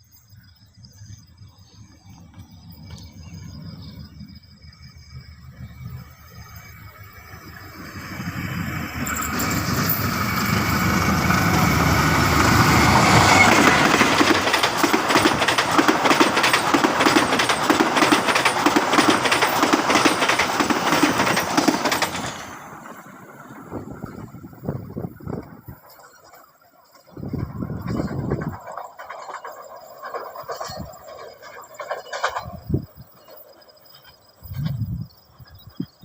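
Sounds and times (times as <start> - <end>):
train passing rumble: 0.0 - 36.0
train wheels clattering over rails: 1.0 - 36.0.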